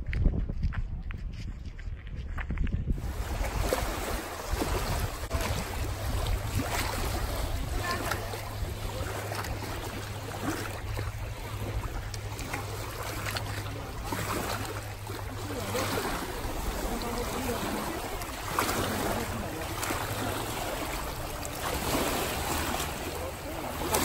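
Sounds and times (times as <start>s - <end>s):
wind rumbling on microphone: 0.0s - 24.0s
waves lapping on rocky shore: 3.0s - 24.0s.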